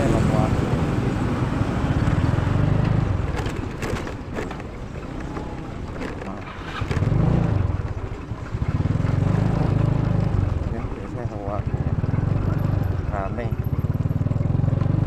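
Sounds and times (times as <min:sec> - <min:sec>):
motor vehicle low rumble: 0:00.0 - 0:15.0.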